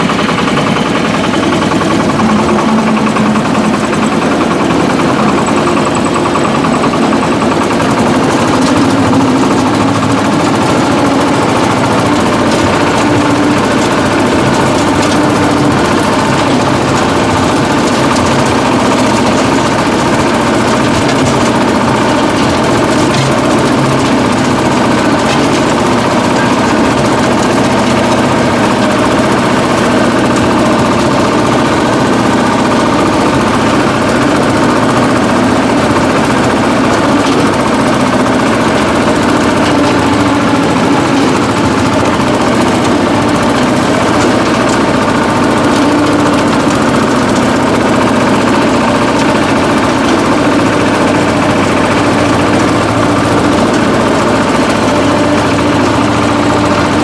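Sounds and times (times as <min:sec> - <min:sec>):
rotary tiller through soil: 0:00.0 - 0:57.0
tractor engine under load: 0:00.0 - 0:57.0.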